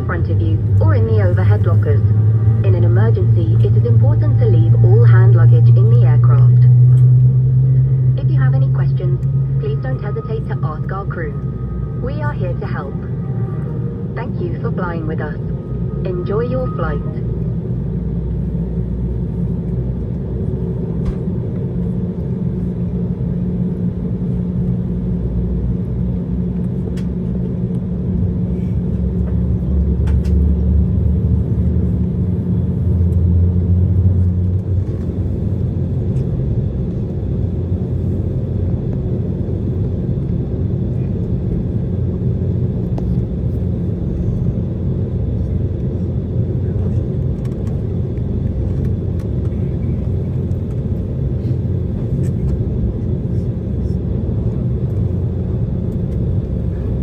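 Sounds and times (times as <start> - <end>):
jet cabin engine rumble: 0.0 - 57.0.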